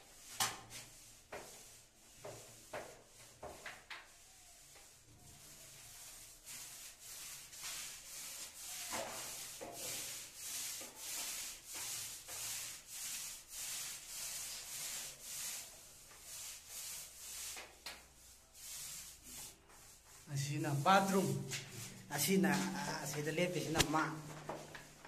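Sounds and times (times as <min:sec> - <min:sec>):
paint roller rolling on wall: 0:00.0 - 0:25.0.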